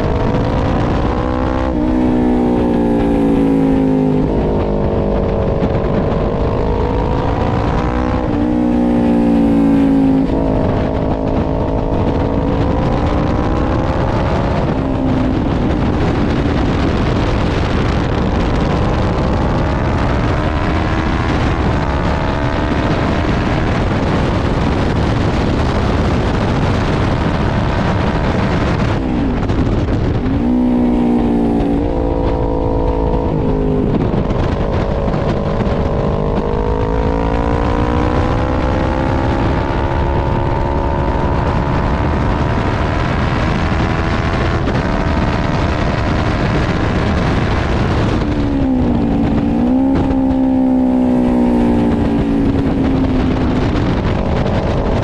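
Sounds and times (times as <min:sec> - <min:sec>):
motorcycle engine revving: 0:00.0 - 0:55.0
wind rush over microphone: 0:00.0 - 0:55.0.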